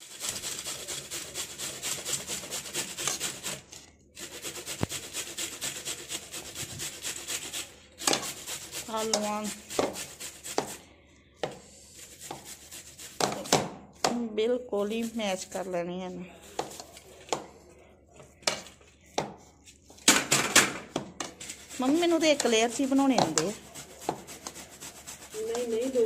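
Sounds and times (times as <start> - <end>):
potato masher mashing potatoes: 0.0 - 15.7, 16.3 - 17.6, 18.2 - 26.0.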